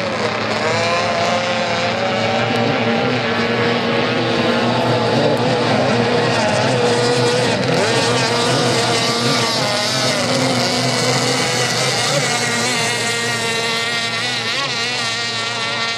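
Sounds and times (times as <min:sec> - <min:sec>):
racing boat engines at full throttle: 0:00.0 - 0:15.9.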